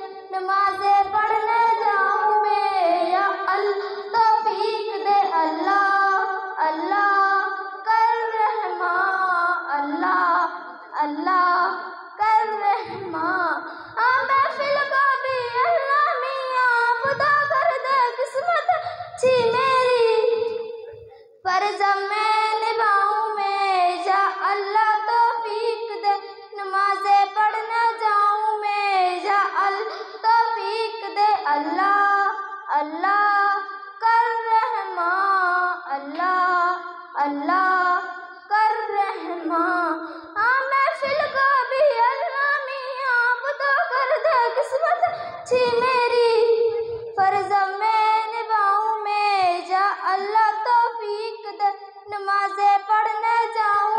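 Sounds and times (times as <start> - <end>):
girl singing into a microphone: 0.0 - 53.9.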